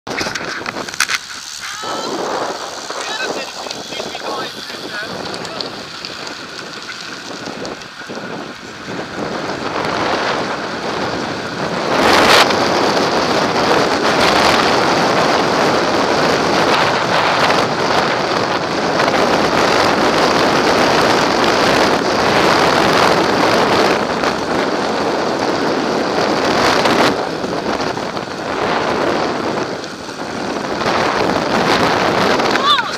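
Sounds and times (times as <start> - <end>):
wind rushing over microphone: 0.1 - 32.9.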